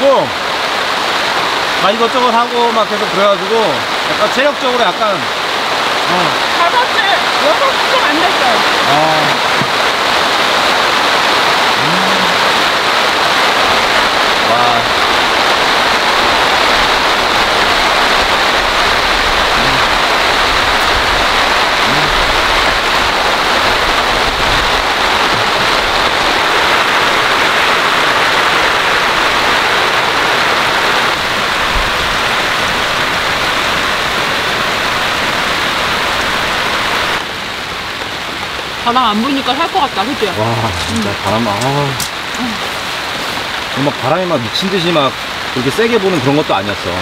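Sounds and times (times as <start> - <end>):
heavy rain hissing: 0.0 - 47.0.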